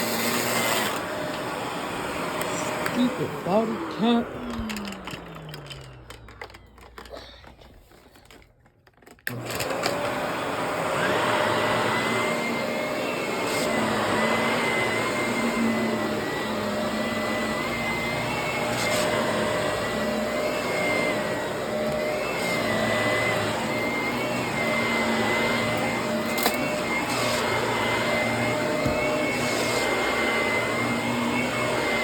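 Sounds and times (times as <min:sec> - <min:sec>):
vacuum cleaner running: 0:00.0 - 0:08.4, 0:09.0 - 0:32.0.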